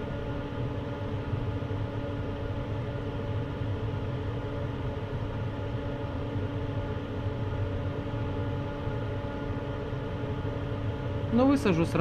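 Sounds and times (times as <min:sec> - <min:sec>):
blower fan humming: 0:00.0 - 0:12.0.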